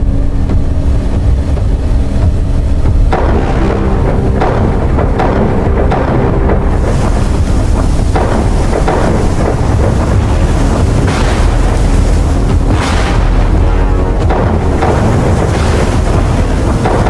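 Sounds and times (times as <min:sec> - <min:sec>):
deep steady rumble: 0:00.0 - 0:17.0
rough sea: 0:00.0 - 0:17.0
strong wind: 0:00.0 - 0:17.0.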